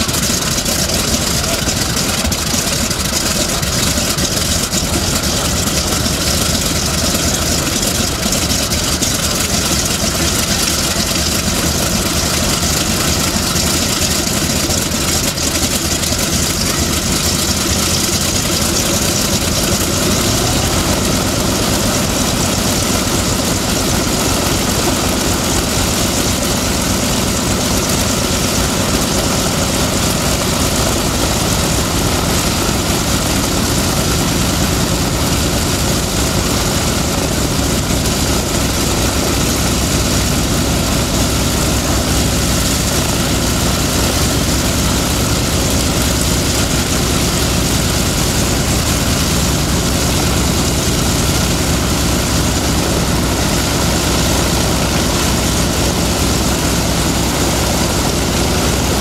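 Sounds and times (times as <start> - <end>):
aircraft radial engine running: 0.0 - 59.0.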